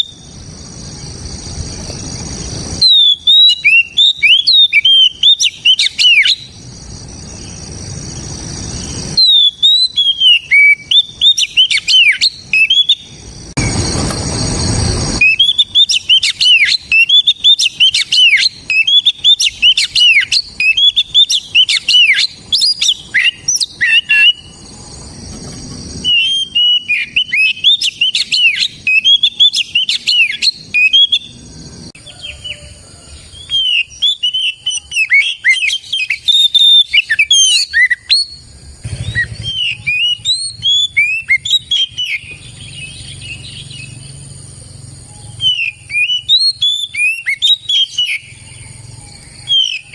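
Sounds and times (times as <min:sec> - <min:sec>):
bird singing whistled chirps: 0:00.0 - 0:25.3, 0:25.9 - 0:49.9.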